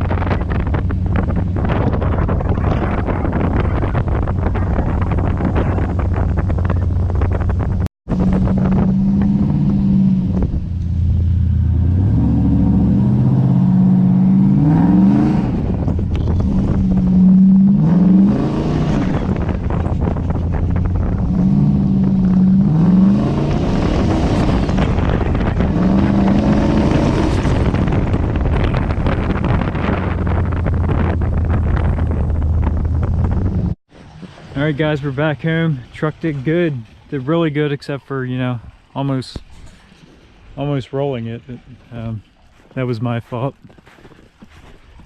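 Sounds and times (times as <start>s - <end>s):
pickup truck engine accelerating: 0.0s - 37.3s.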